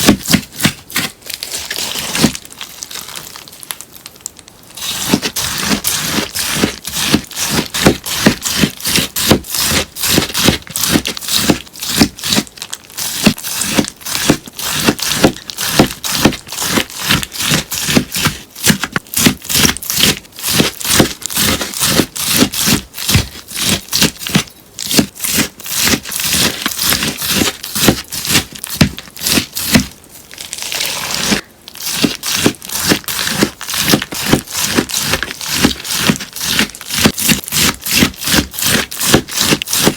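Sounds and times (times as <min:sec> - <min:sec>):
slime crunching: 0:00.0 - 0:39.9.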